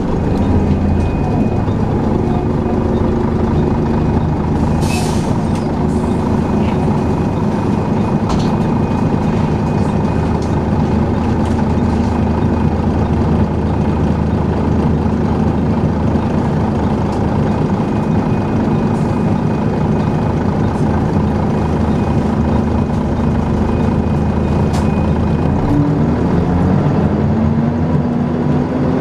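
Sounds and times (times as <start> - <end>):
bus diesel engine idling: 0.0 - 26.7.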